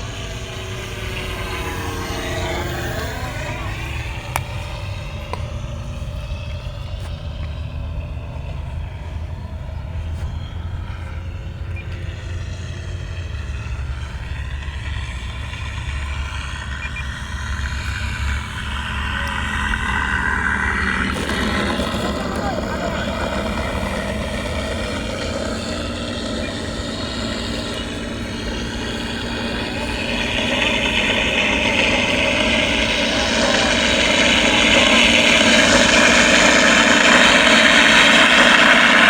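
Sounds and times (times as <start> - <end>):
propeller buzz: 0.0 - 39.0
simulated piston engine sound: 0.0 - 39.0.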